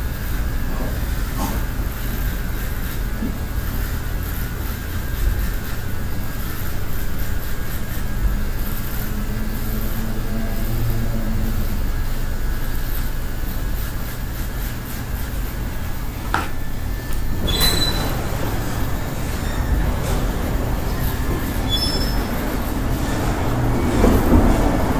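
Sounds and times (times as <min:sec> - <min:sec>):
electric hair clippers buzzing: 0:00.0 - 0:23.0.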